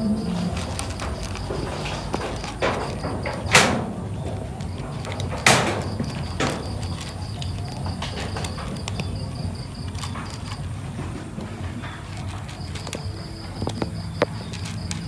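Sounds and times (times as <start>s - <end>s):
cat crunching dry kibble: 0.1s - 15.0s
sharp clacks: 0.6s - 15.0s.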